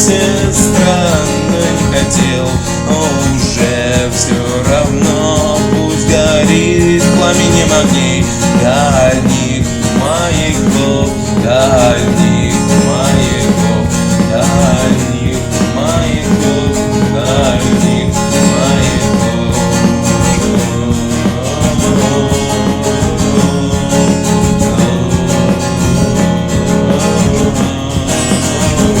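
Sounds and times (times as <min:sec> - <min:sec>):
instrumental guitar music: 0:00.0 - 0:29.0.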